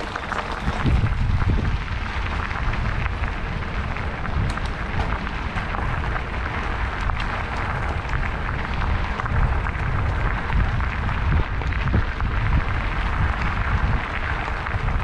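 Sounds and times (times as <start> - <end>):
mountain bike rumbling and rattling: 0.0 - 15.0
wind buffeting microphone: 0.0 - 15.0.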